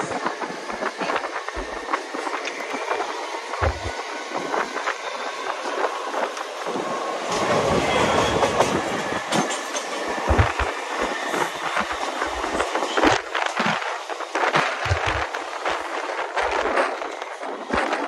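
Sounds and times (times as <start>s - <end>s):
train wheels clattering over rail joints: 0.1s - 18.0s.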